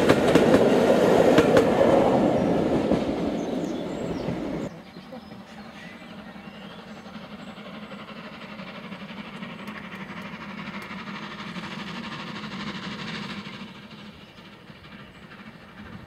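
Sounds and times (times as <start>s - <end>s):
steam locomotive exhaust chuffing: 0.0s - 16.0s.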